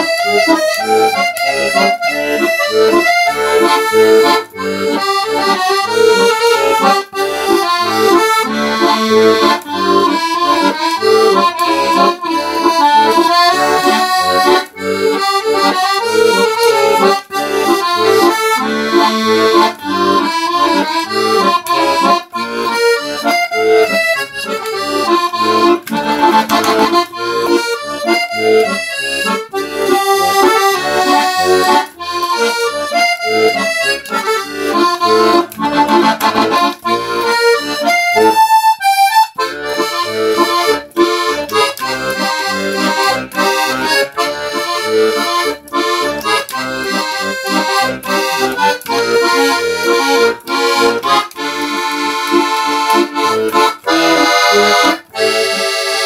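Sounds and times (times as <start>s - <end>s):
button accordion melody: 0.0s - 56.0s.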